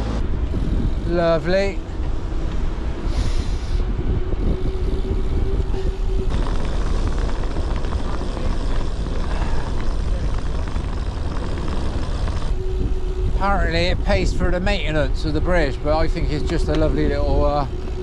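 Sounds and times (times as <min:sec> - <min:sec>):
steady hum: 0:00.0 - 0:18.0
wind rushing over microphone: 0:00.0 - 0:18.0.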